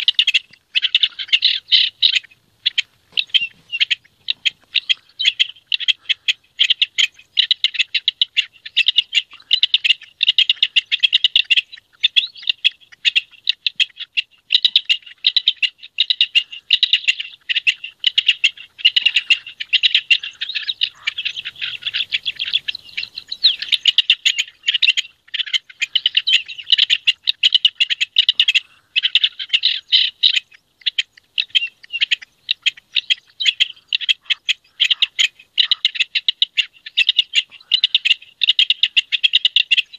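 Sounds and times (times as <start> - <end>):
partridge harsh chattering song: 0.0 - 39.9.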